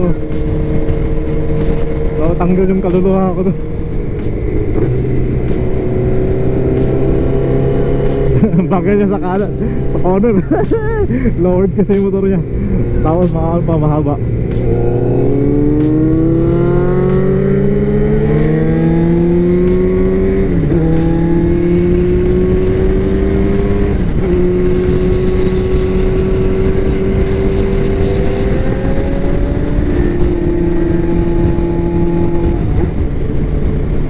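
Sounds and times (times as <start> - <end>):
motorcycle engine accelerating: 0.0 - 34.0
wind rushing over microphone: 0.0 - 34.0.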